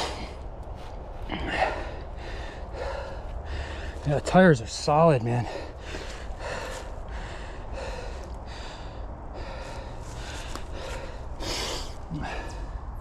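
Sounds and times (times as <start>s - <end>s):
man breathing hard: 0.0s - 4.2s, 5.4s - 13.0s.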